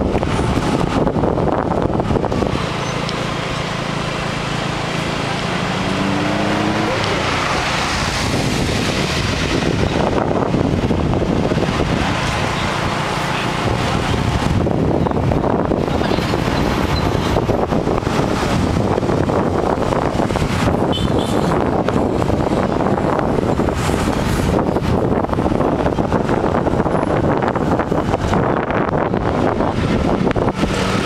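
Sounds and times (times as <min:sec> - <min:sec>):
traffic noise: 0:00.0 - 0:31.0
vehicle engine: 0:00.0 - 0:31.0
wind rumbling on microphone: 0:00.0 - 0:31.0.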